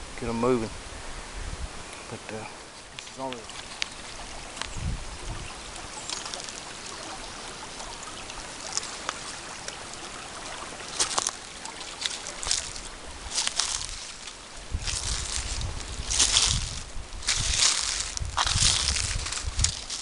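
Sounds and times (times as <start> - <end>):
trickle of running water: 2.7 - 20.0.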